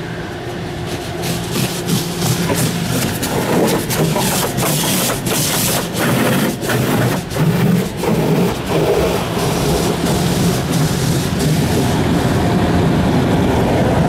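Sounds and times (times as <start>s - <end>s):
car wash brushes and water spray: 0.0s - 14.0s
machinery motors humming: 0.0s - 14.0s.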